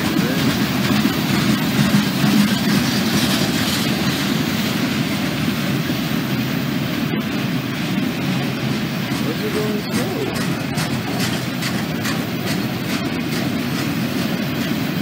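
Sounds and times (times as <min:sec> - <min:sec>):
steel wheels on rails: 0:00.0 - 0:15.0.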